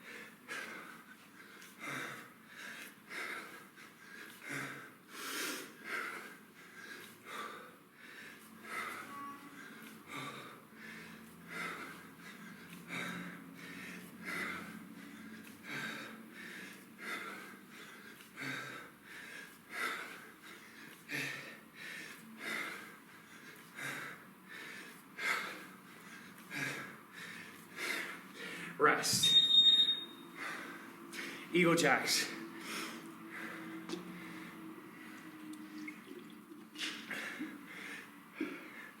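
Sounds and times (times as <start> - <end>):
hard breathing: 0.0 - 29.1, 30.3 - 35.9, 36.7 - 39.0.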